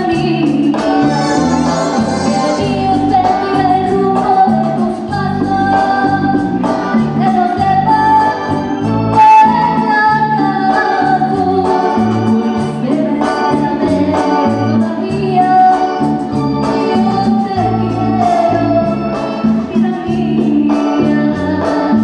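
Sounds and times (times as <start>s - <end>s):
sustained chords and bass line: 0.0s - 22.0s
woman singing ballad: 0.0s - 22.0s.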